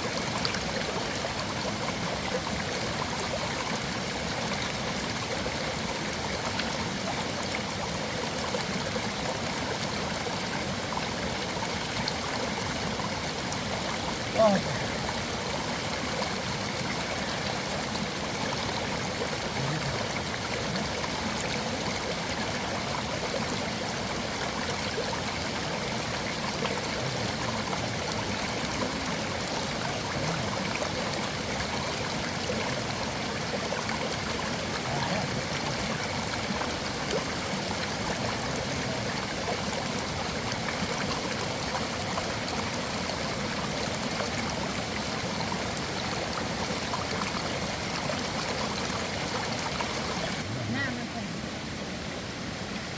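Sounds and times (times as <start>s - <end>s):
water rushing over rocks: 0.0s - 52.9s.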